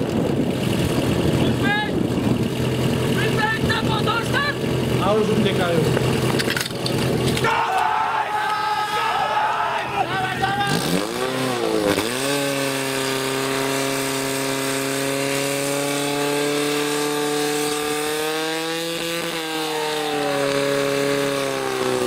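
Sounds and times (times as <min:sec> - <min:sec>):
pump engine running at high revs: 0:00.0 - 0:07.5, 0:09.8 - 0:22.0.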